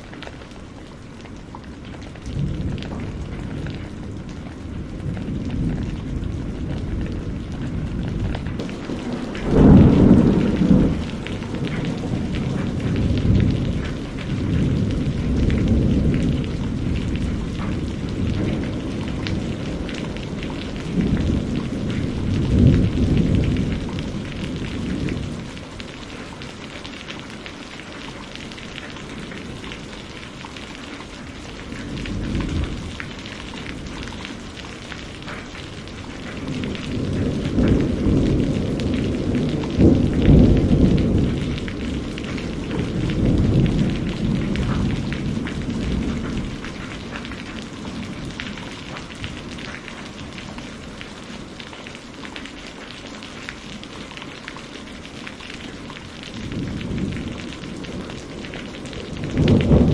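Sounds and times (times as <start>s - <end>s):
steady rain: 0.0s - 59.9s
thunder rumbling: 0.0s - 59.9s.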